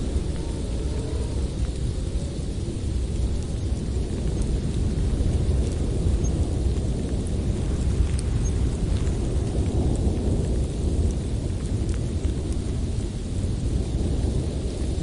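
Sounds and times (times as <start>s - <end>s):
blizzard wind rumbling: 0.0s - 15.0s
faint ticks: 0.0s - 15.0s.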